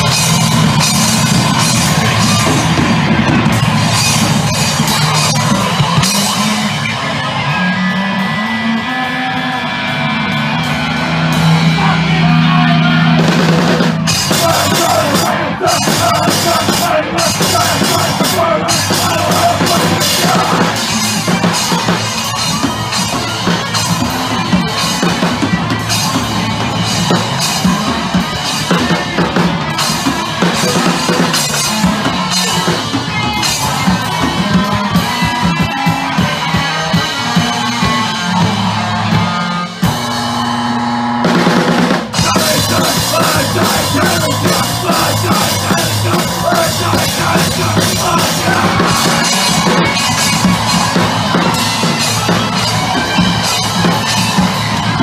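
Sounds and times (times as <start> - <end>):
drums and crashing cymbals: 0.0 - 55.0
live rock band: 0.0 - 55.0.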